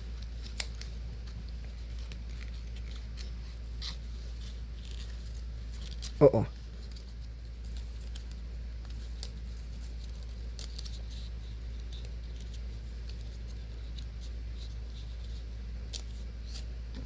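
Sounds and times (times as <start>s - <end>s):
low electrical hum: 0.0s - 17.0s
paper rustling: 0.1s - 15.4s.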